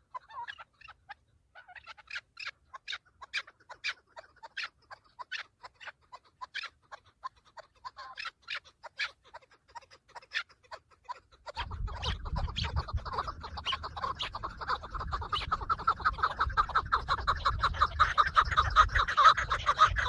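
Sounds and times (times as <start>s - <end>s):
partridge clucking calls: 0.0s - 20.0s.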